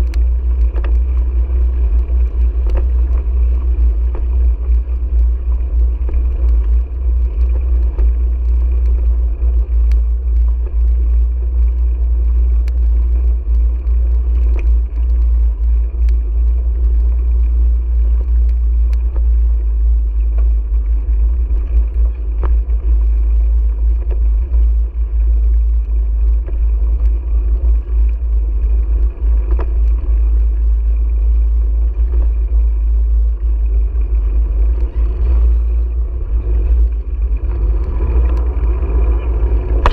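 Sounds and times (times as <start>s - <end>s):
tyre noise on pavement: 0.0s - 39.9s.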